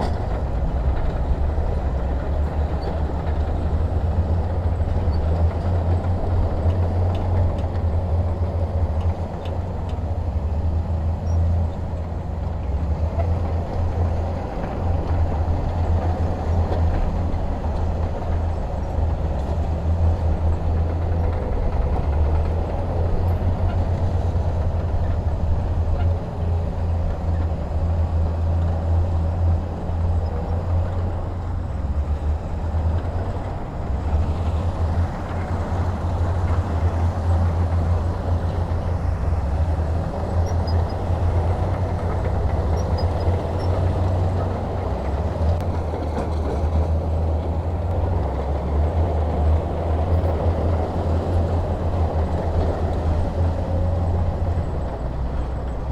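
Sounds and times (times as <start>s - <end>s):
heavy diesel engine rumbling: 0.0s - 55.9s.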